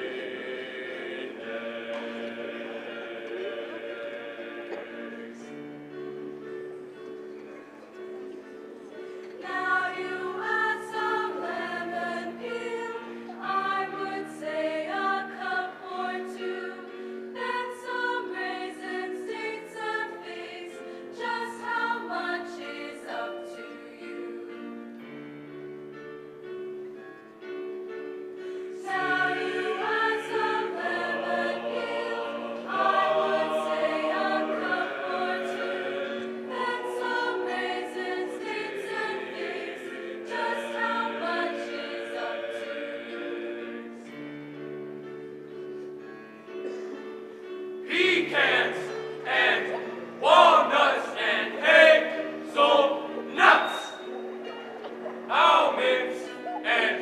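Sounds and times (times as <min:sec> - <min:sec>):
choir singing held notes: 0:00.0 - 0:24.8, 0:28.4 - 0:44.6, 0:47.8 - 0:57.0.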